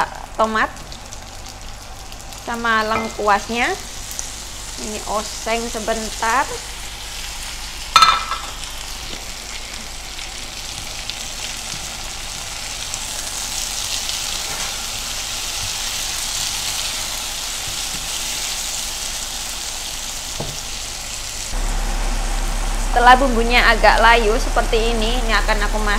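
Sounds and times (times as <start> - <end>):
vegetables sizzling in hot oil: 0.0 - 25.9.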